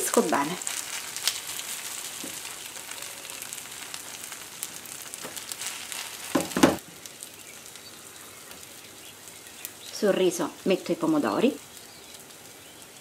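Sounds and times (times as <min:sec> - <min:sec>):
rice and egg sizzling in oil: 0:00.0 - 0:13.0.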